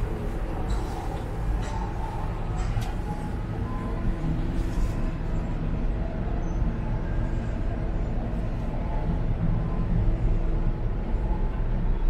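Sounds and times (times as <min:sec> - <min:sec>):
cable car cabin rumble: 0:00.0 - 0:12.0.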